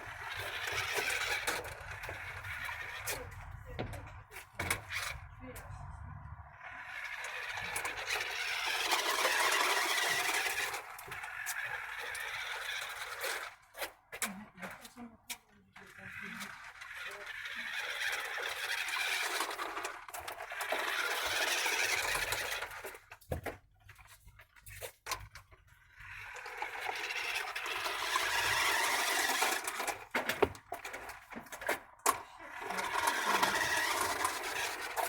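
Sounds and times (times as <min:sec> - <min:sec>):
remote control car motor whirring: 0:00.0 - 0:05.7, 0:06.4 - 0:35.0.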